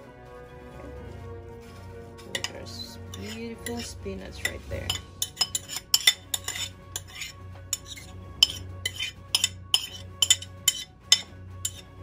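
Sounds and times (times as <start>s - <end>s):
metal spoon scraping ceramic bowl: 2.2s - 12.0s.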